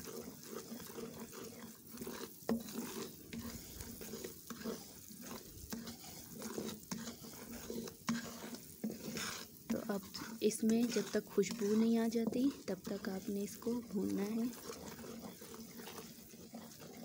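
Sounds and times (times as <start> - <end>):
flour sizzling in a wok: 0.0 - 17.0
wooden spoon scraping pan: 0.0 - 17.0.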